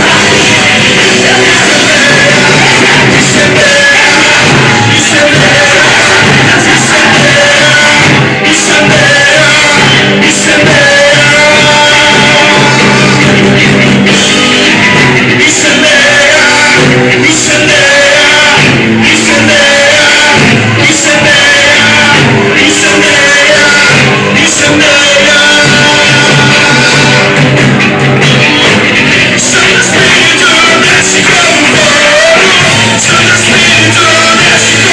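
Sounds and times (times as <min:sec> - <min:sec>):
band playing: 0:00.0 - 0:34.9
singing: 0:00.0 - 0:34.9.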